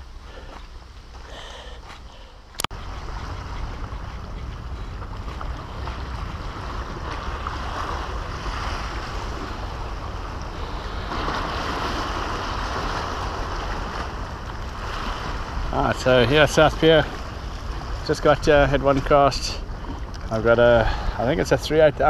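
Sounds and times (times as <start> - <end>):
wind rumbling on microphone: 0.0 - 22.0
waves washing against breakwater: 2.6 - 22.0.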